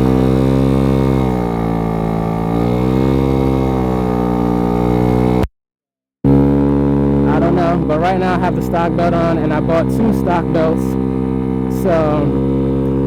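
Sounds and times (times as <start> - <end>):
scooter engine running: 0.0 - 5.5, 6.3 - 13.0.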